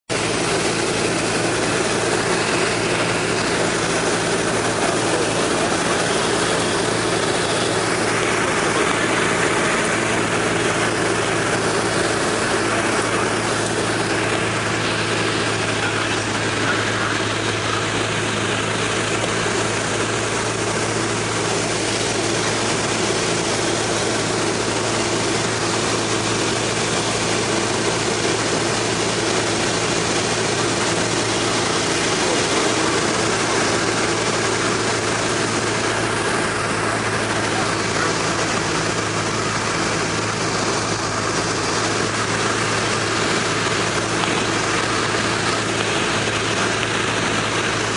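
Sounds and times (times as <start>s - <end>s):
propeller engine droning: 0.0s - 47.9s.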